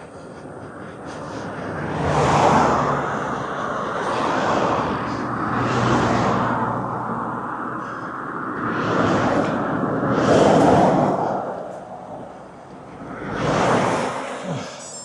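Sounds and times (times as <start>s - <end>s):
motor traffic passing: 0.0s - 15.0s.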